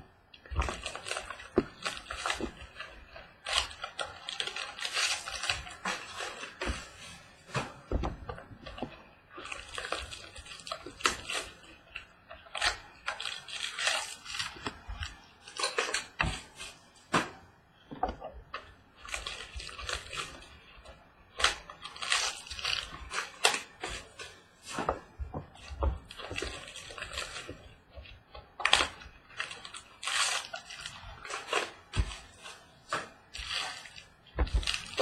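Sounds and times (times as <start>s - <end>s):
plastic wrapper crinkling: 0.4s - 17.2s, 18.5s - 35.0s
cardboard rustling: 0.4s - 35.0s.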